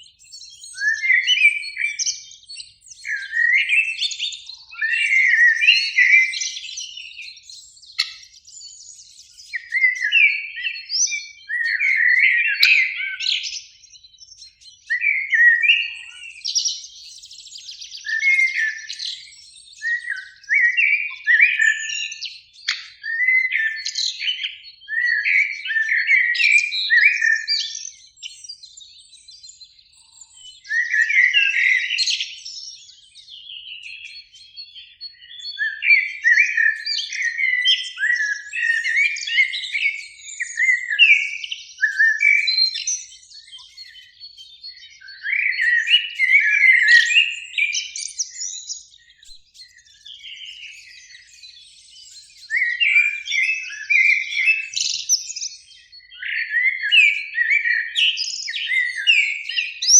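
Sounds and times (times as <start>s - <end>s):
blackbirds singing: 0.0s - 59.9s.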